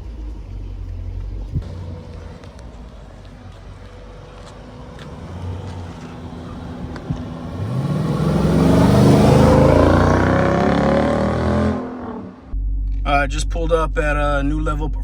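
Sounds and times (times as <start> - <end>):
car engine accelerating: 0.0 - 12.6.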